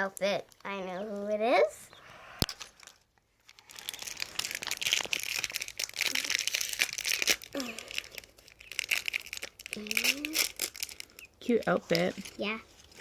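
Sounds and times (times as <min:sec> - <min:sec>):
plastic packaging crinkling and tearing: 0:02.4 - 0:13.0.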